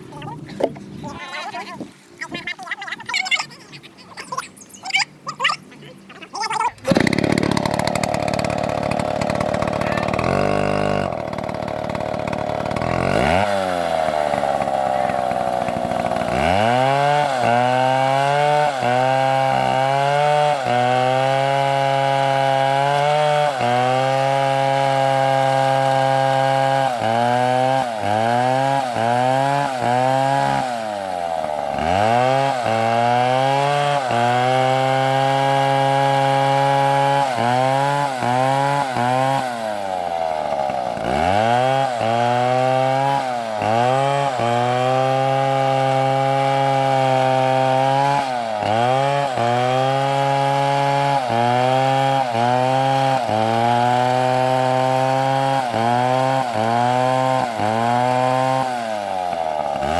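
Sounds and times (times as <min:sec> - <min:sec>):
chainsaw cutting wood: 0:00.0 - 0:02.4, 0:06.0 - 0:59.9.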